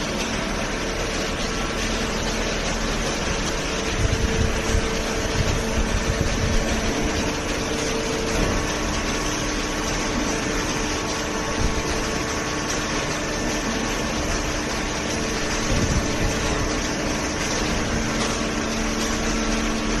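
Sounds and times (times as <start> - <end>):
machine drone: 0.0 - 20.0.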